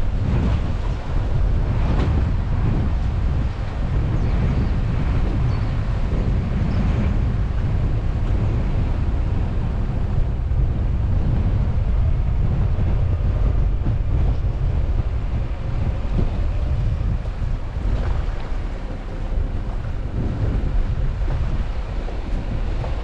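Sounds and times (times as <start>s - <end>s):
car driving rumble: 0.0s - 23.0s
wind buffeting microphone: 0.0s - 23.0s.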